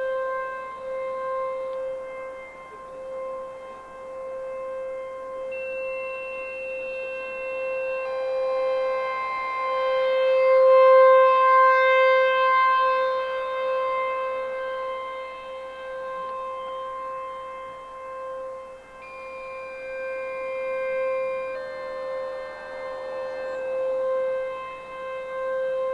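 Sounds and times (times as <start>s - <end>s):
warning siren steady tone: 0.0s - 25.9s.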